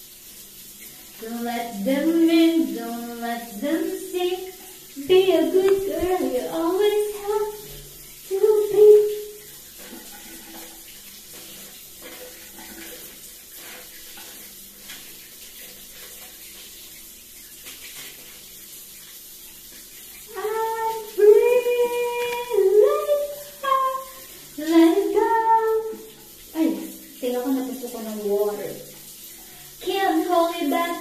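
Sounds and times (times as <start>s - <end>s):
shower spray running: 0.0s - 31.0s.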